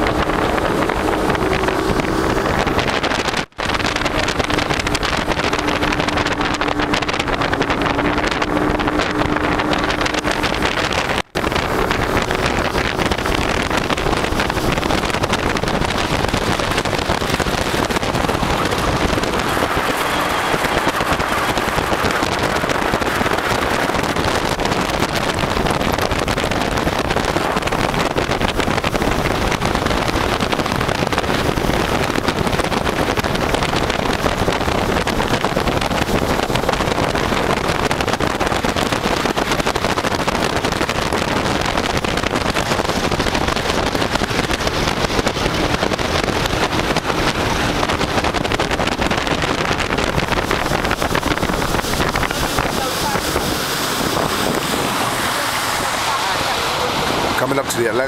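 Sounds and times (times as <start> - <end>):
motorboat engine running: 0.0 - 58.0
wind buffeting microphone: 0.0 - 58.0.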